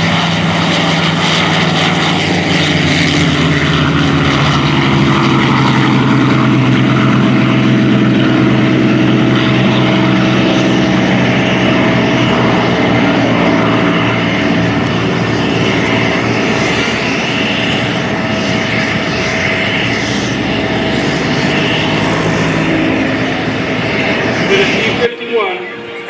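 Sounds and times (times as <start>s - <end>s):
propeller plane engine drone: 0.0s - 26.0s.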